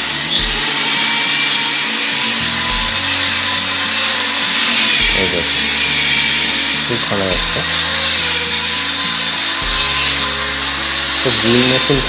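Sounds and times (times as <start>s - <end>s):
electric drill boring into masonry: 0.0s - 12.0s.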